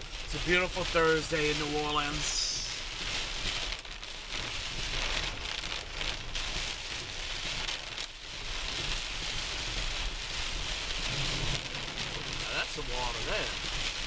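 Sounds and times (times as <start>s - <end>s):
heavy rain on car windshield: 0.0s - 14.0s.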